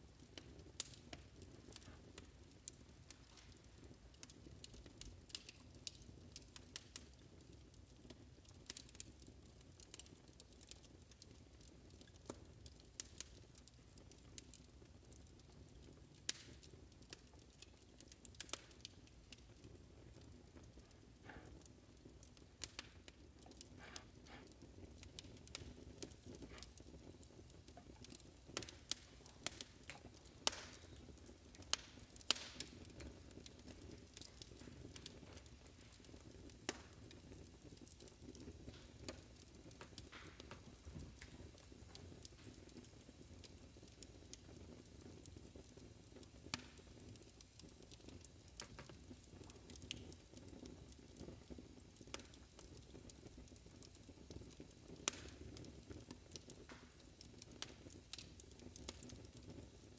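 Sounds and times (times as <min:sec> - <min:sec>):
low fire rumble: 0:00.0 - 0:59.9
wood fire popping: 0:00.0 - 0:59.9.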